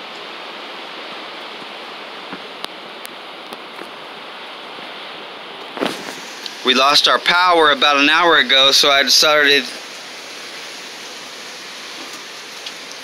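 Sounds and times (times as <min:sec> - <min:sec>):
hurricane wind and rain: 0:00.0 - 0:13.0.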